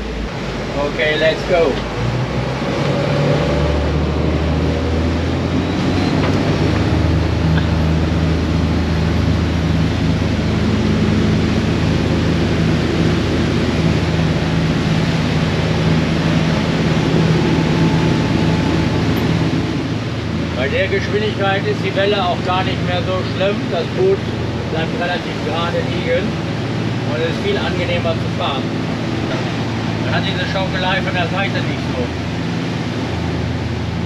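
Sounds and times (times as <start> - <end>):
boat engines revving: 0.0 - 34.0
rush of water and wind: 0.0 - 34.0.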